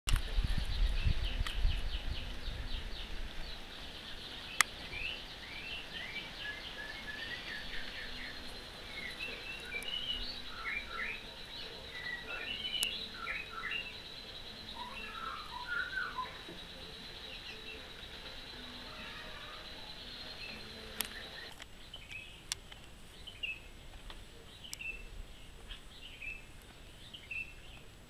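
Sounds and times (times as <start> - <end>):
songbirds chirping and twittering: 0.1 - 28.0.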